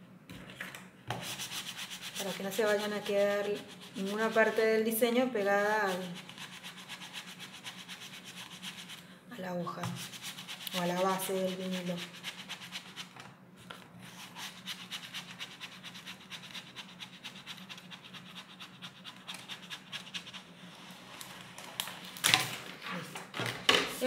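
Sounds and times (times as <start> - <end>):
spatula scraping vinyl sheet: 1.1 - 9.0, 9.8 - 23.1.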